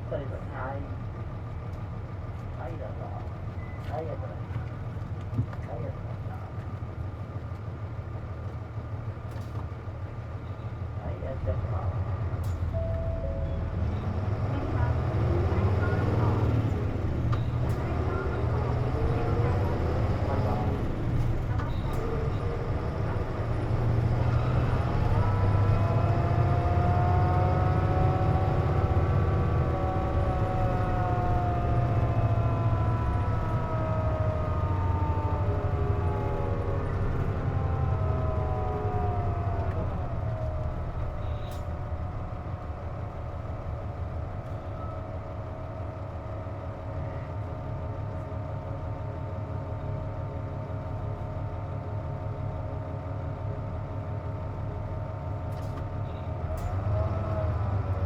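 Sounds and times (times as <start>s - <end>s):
bus engine rumble with whine: 0.0s - 58.0s.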